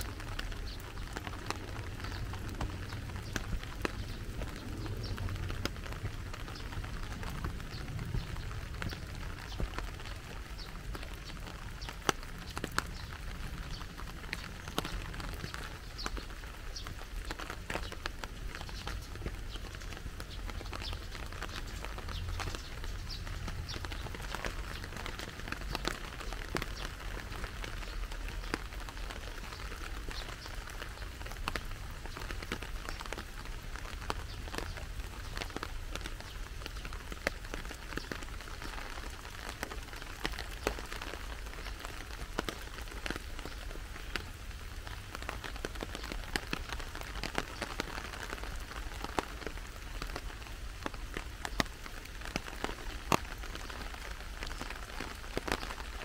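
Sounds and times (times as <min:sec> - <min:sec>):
rain falling: 0:00.0 - 0:56.0
raindrops ticking: 0:00.0 - 0:56.0.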